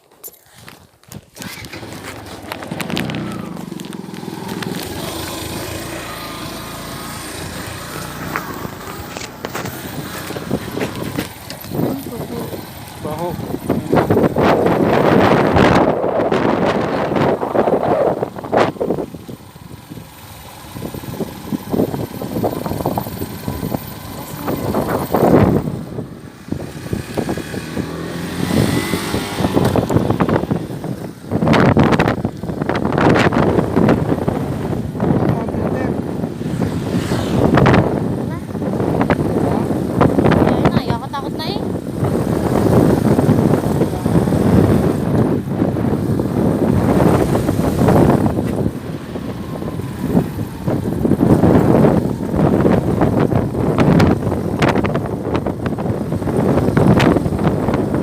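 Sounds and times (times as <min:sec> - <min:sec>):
wind buffeting microphone: 0:00.6 - 0:58.0
vehicle engine running steadily: 0:01.5 - 0:58.0.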